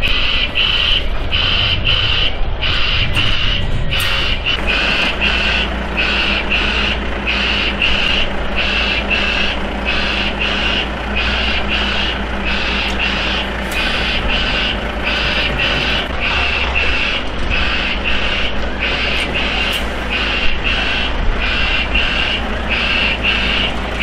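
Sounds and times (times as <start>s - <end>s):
truck engine running under load: 0.0s - 24.0s
vehicle warning beeper: 0.0s - 24.0s.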